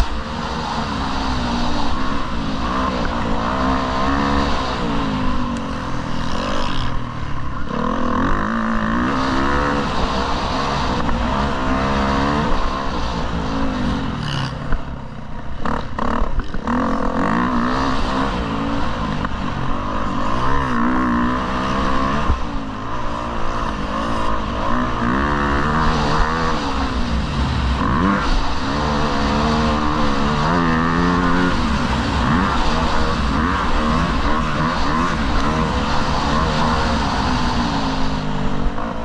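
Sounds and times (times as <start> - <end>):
motocross bike engine revving: 0.0 - 14.8, 15.6 - 39.0.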